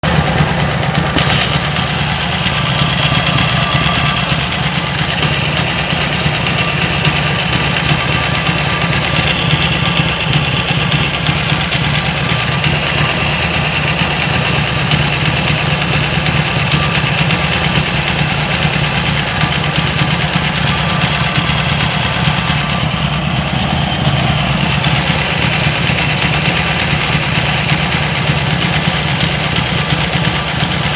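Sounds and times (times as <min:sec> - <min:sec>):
mechanical engine noise: 0:00.0 - 0:30.9
motorcycle engine running: 0:00.0 - 0:30.9.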